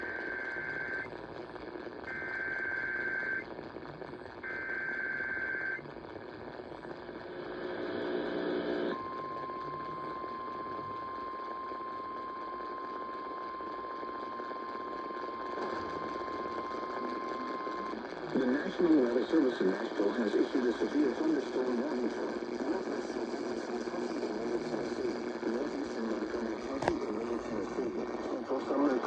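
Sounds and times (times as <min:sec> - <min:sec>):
radio static: 0:00.0 - 0:29.0.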